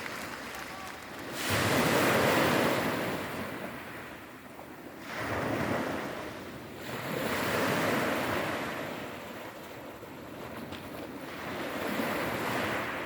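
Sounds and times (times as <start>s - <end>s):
sea surf washing ashore: 0.0s - 13.0s.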